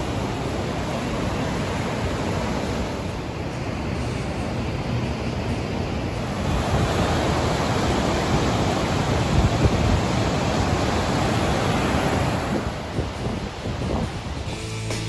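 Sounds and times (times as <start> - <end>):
water rushing over rocks: 0.0 - 4.8, 5.7 - 14.5.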